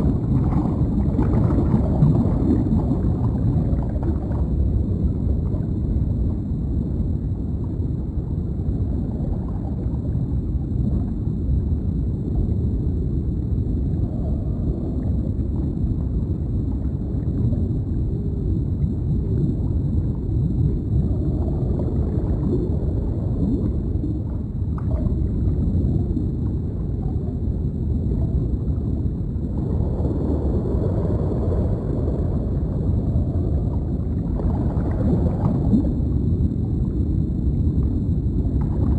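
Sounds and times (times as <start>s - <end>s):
bubbling and gurgling water: 0.0s - 38.9s
faint high whine: 0.0s - 38.9s
low underwater rumble: 0.0s - 38.9s.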